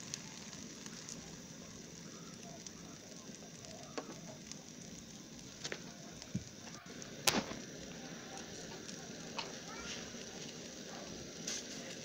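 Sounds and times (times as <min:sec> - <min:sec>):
omelette sizzling in pan: 0:00.0 - 0:12.0.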